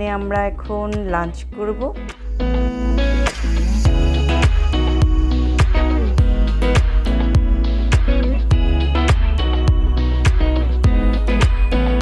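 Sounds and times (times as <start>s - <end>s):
guitar music with steady beat: 1.9s - 12.0s.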